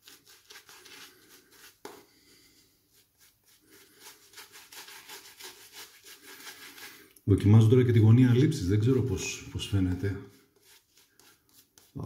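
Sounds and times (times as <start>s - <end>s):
shaving brush rubbing on face: 0.0s - 7.1s, 8.7s - 12.0s.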